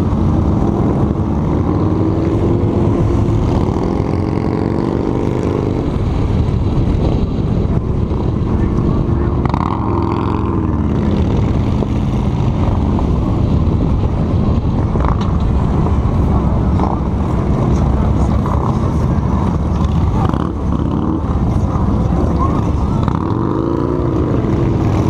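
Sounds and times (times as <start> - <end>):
heavy wind noise: 0.0 - 25.0
motorcycle engine running: 0.0 - 25.0.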